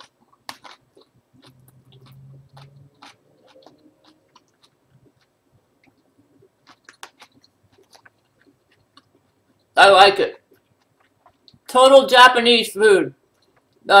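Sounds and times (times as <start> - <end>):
person chewing with mouth closed: 0.0 - 11.7, 13.2 - 13.8.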